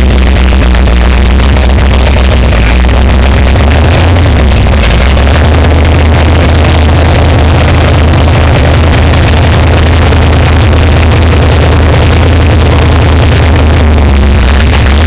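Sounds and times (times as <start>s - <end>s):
loud engine idling: 0.0s - 15.0s.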